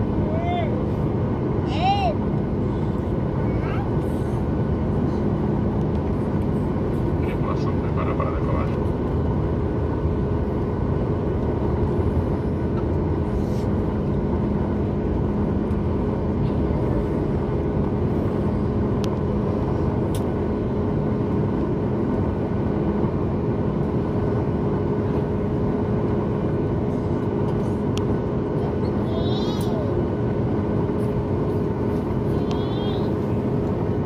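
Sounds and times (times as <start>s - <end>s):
airliner cabin engine rush: 0.0s - 34.0s
constant low hum: 0.0s - 34.0s.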